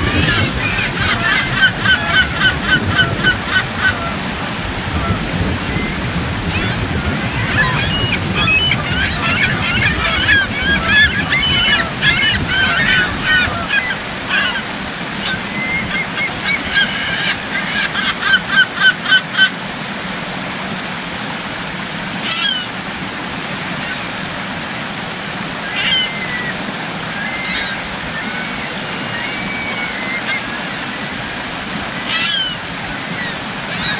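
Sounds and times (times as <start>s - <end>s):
gulls calling: 0.0s - 19.6s, 22.2s - 33.9s
rushing stream: 0.0s - 33.9s.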